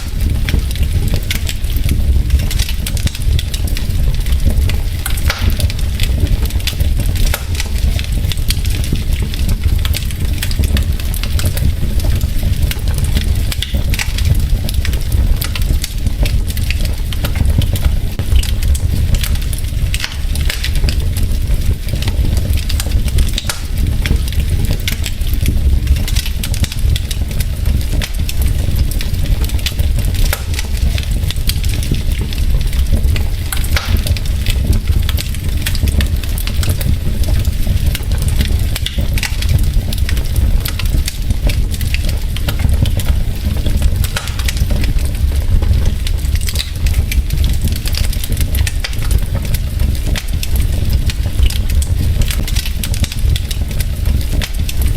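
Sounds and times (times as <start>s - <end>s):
logs crackling and popping: 0.0s - 54.9s
low rumble of fire: 0.0s - 54.9s.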